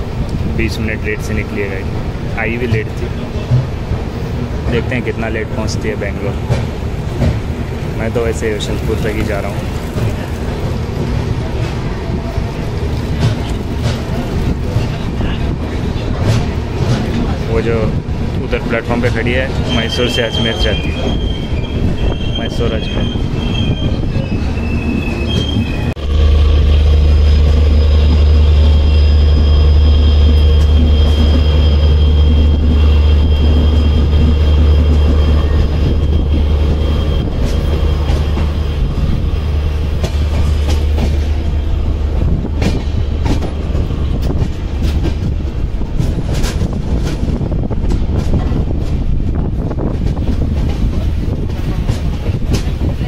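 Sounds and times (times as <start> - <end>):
train rumbling on track: 0.0 - 53.0
rail-joint clicks: 1.2 - 11.8, 12.8 - 26.0, 27.4 - 39.2, 39.8 - 53.0.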